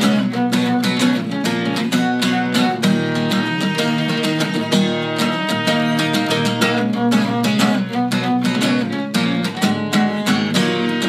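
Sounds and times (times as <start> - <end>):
acoustic bass guitar: 0.0 - 11.0
acoustic guitar strumming: 0.0 - 11.0
bowed violin: 0.0 - 11.0.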